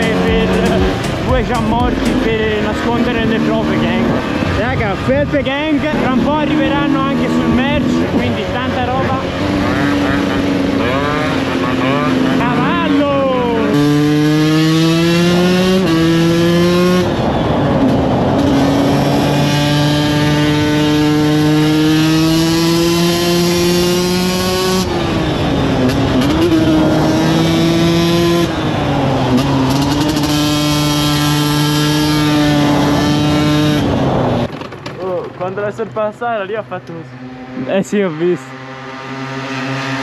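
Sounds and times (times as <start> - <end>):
two-stroke motorcycle engine: 0.0 - 40.0.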